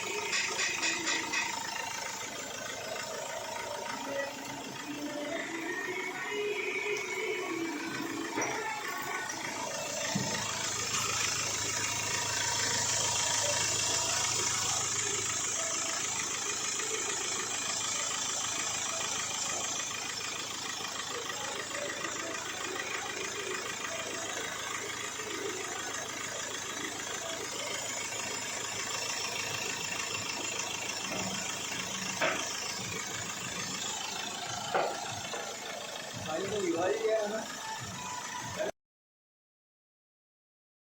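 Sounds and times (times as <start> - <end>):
diesel engine idling: 0.0 - 38.7.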